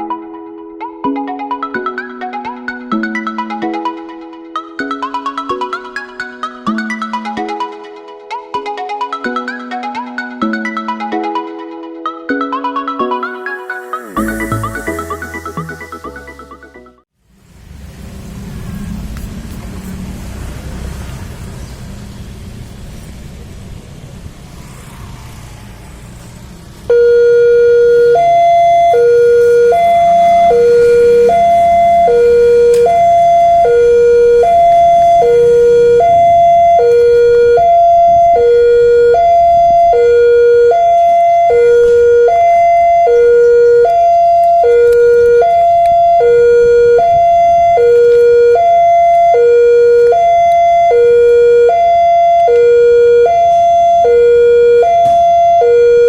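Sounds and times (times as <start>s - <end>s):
level crossing warning siren: 0.0s - 17.0s, 26.8s - 56.0s
road traffic: 0.0s - 56.0s.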